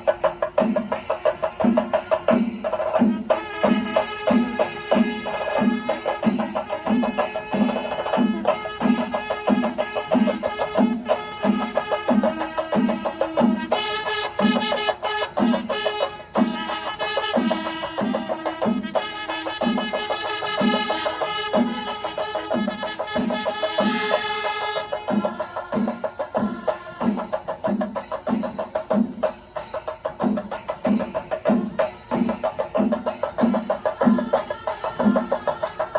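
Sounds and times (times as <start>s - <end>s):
festival drum beat: 0.0s - 35.9s.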